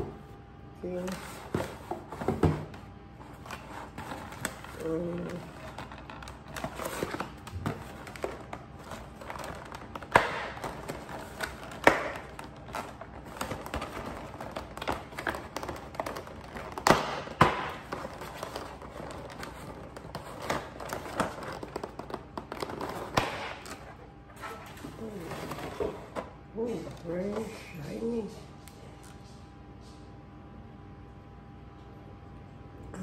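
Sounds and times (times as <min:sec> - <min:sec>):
plastic packaging rustling and scraping: 0:01.1 - 0:27.6.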